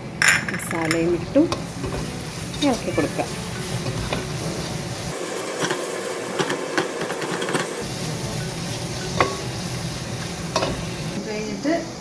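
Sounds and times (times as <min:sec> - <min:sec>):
spoon stirring: 0:00.2 - 0:10.8
masala sizzling in a frying pan: 0:01.0 - 0:12.0.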